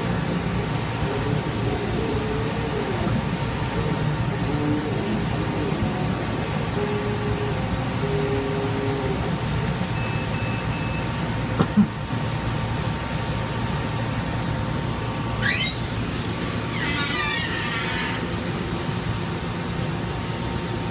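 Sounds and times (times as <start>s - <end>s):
fan hum and air hiss: 0.0s - 20.9s.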